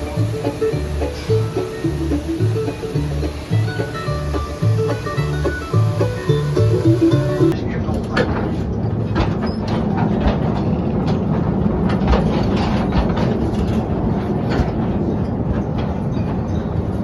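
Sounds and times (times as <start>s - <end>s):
ride cars rumbling on track: 0.0s - 17.0s
wheels clattering and clicking: 0.0s - 17.0s.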